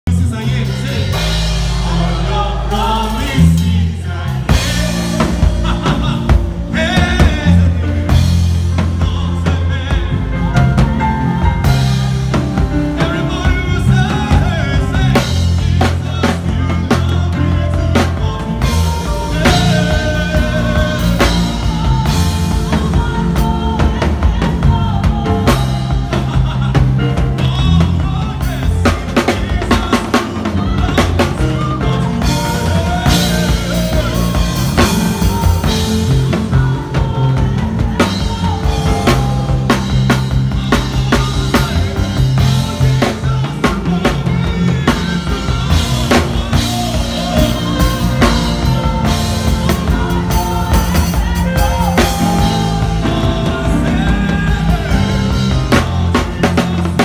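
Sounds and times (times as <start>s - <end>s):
drum kit played fast: 0.0s - 57.0s
live band music: 0.0s - 57.0s.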